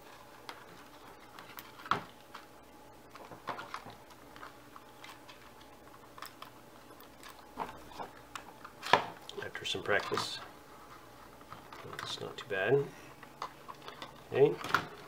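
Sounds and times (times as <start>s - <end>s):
clicks and rustles of plastic handling: 0.0s - 2.5s, 3.1s - 15.0s.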